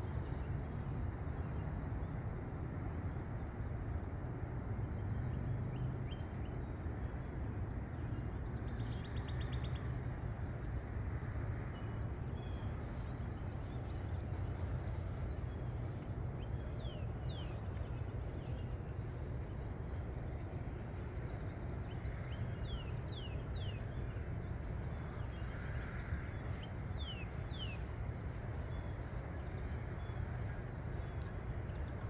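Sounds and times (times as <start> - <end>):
low outdoor rumble: 0.0 - 32.0.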